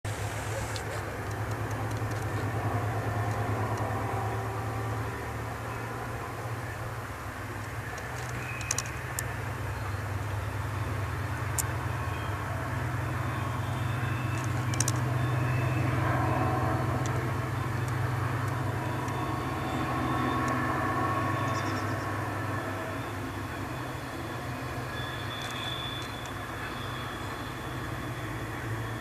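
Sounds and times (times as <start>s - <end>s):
distant train engine drone: 0.0s - 29.0s.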